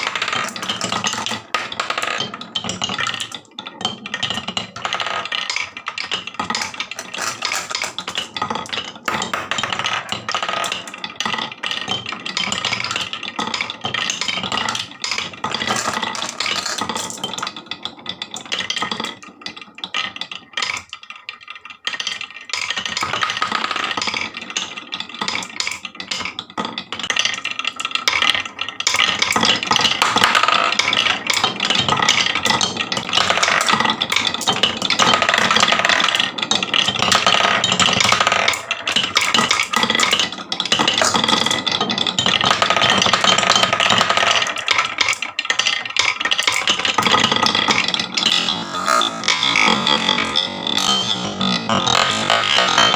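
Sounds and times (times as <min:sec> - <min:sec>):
marbles rattling down wooden run: 0:00.0 - 0:52.9.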